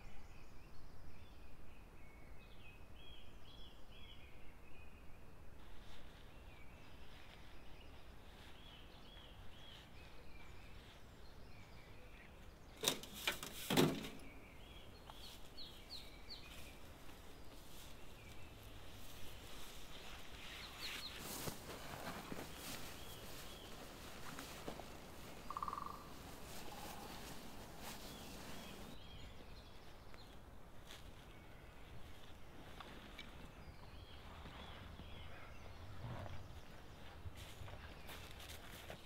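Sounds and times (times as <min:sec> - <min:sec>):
faint outdoor hiss: 0:00.0 - 0:39.0
woodland birds chirping: 0:00.0 - 0:39.0.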